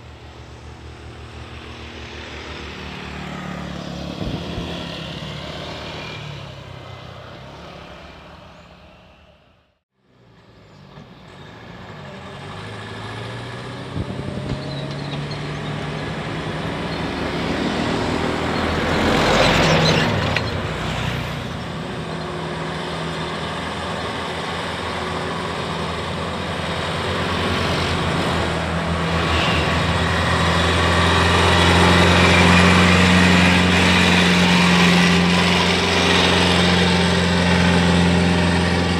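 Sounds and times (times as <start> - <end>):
scooter passing: 0.0 - 9.4, 12.2 - 38.9
diesel truck engine: 0.0 - 38.9
passing traffic rush: 0.0 - 38.9.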